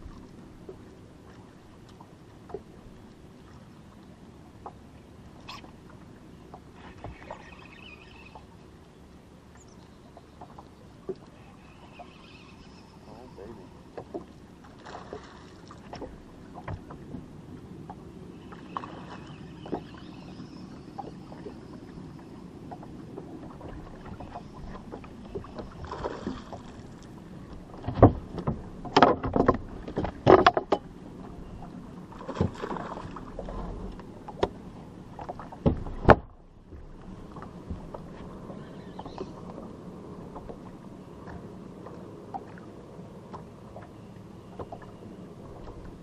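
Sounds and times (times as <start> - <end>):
water lapping against boat hull: 0.0 - 46.0.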